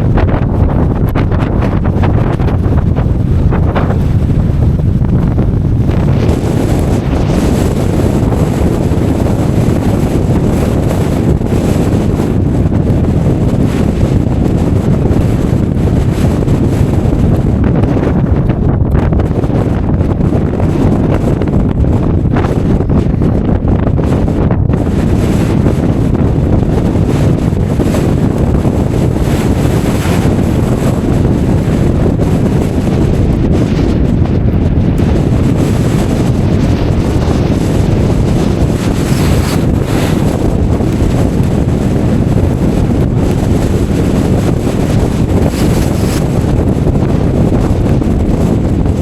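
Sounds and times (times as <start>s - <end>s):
storm wind buffeting microphone: 0.0s - 49.0s.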